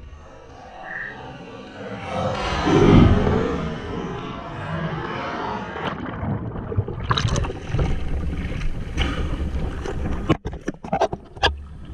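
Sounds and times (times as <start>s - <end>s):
muffled underwater water rushing: 0.0s - 11.9s.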